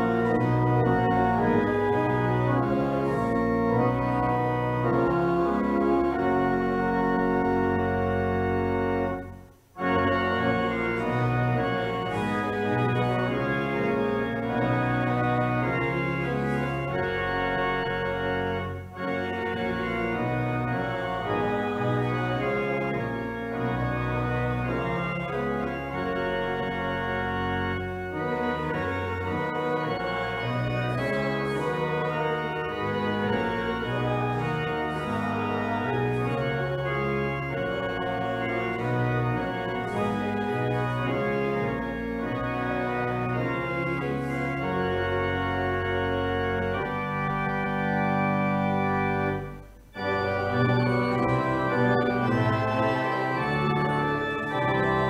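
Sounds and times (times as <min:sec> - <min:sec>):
church organ chords: 0:00.0 - 0:55.0.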